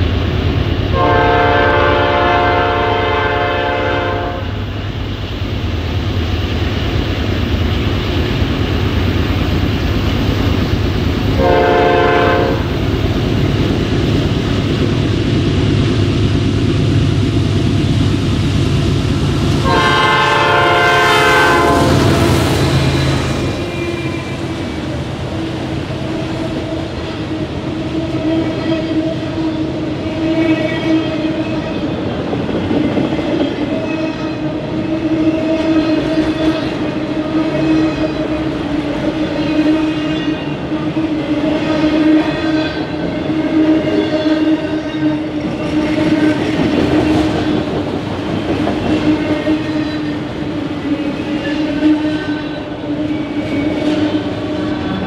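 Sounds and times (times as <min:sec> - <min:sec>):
train rolling past: 0:00.0 - 0:55.0.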